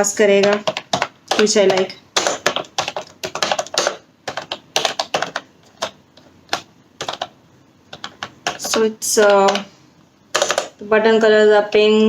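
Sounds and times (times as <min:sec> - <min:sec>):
keyboard keys clacking: 0:00.2 - 0:09.7, 0:10.3 - 0:10.8.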